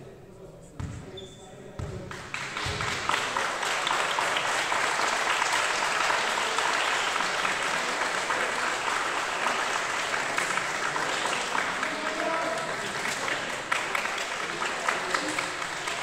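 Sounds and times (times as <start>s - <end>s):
applause in a large hall: 2.0s - 16.0s.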